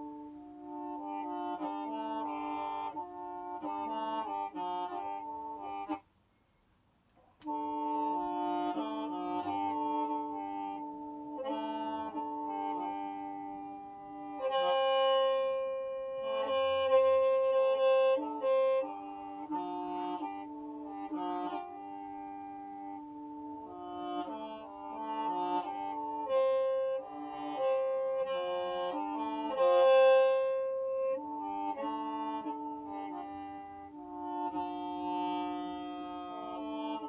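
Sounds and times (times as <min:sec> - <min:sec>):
bamboo mouth organ chords: 0:00.0 - 0:06.0, 0:07.4 - 0:37.0.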